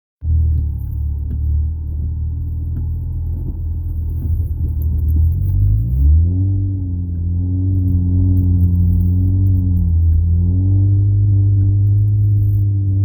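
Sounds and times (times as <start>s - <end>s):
car engine revving: 0.2s - 13.0s.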